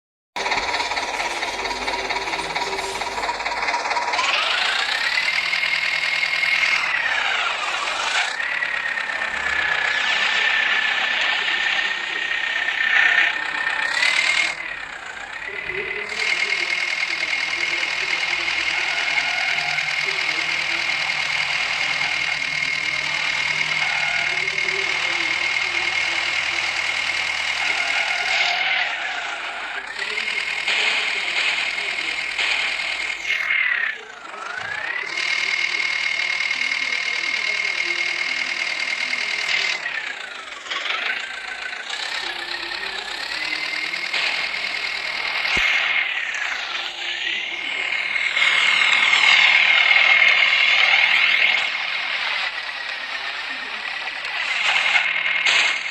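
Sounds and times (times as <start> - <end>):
high whine: 0.4 - 55.9
tractor diesel engine revving: 0.4 - 55.9.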